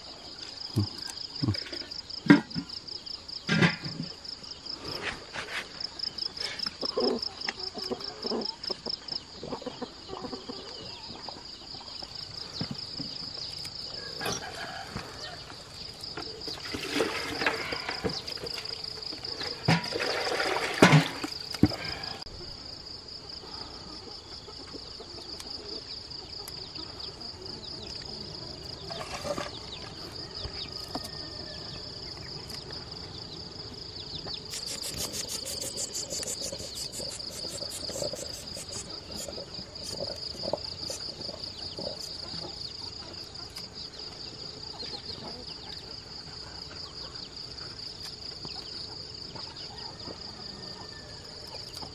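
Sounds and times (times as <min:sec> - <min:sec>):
high-pitched insect chorus: 0:00.0 - 0:51.9
pulsing insect call: 0:00.0 - 0:51.9.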